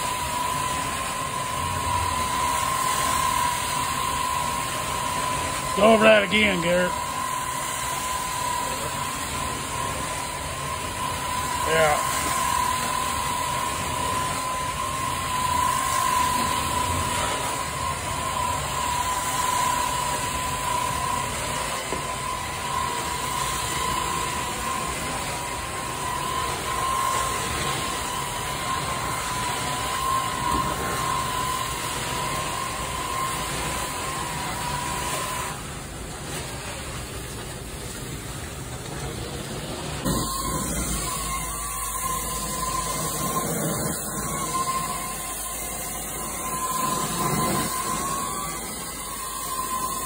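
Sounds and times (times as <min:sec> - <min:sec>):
carpet extraction wand suction: 0:00.0 - 0:35.6, 0:39.9 - 0:50.0
high whine: 0:00.0 - 0:50.0.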